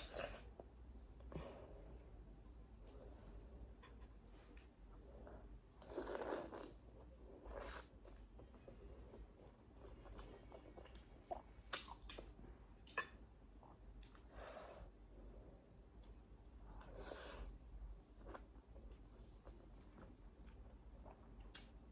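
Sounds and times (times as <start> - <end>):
quiet chewing: 0.0 - 14.9, 15.6 - 21.9.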